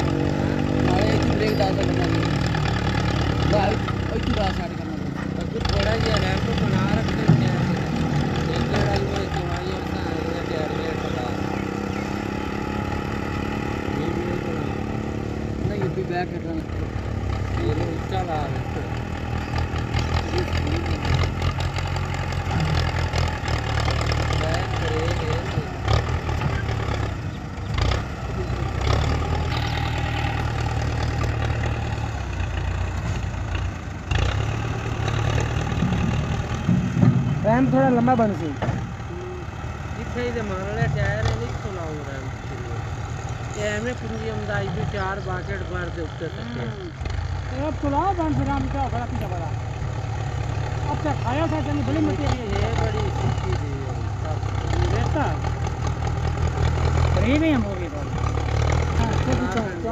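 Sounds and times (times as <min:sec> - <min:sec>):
front loader pushing soil: 0:00.0 - 0:59.9
tractor diesel engine running: 0:00.0 - 0:59.9.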